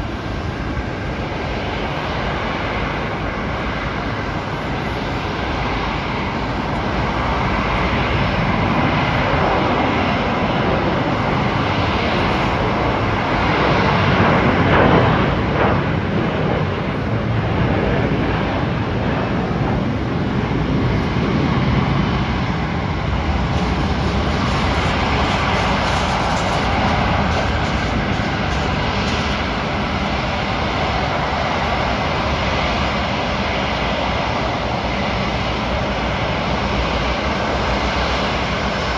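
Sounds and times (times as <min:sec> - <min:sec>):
airliner engines passing: 0:00.0 - 0:38.9.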